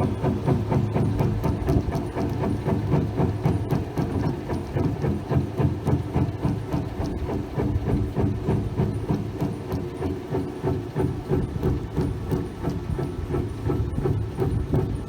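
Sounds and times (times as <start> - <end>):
exhaust blower motor rumbling: 0.0 - 15.0.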